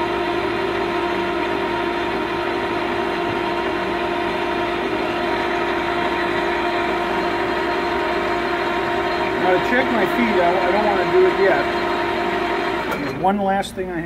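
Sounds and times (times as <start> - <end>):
lathe humming: 0.0 - 13.6.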